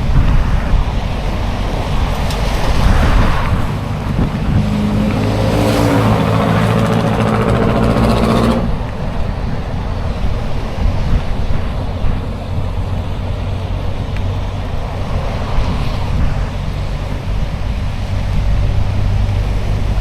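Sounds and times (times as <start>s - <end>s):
motor vehicle engine: 0.0s - 20.0s
wind rumble on microphone: 0.0s - 20.0s.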